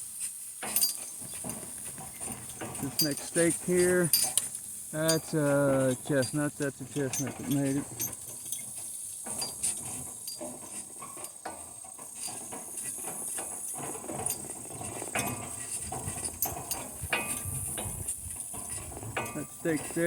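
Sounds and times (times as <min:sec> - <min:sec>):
metal harness clinking and jingling: 0:00.6 - 0:20.0.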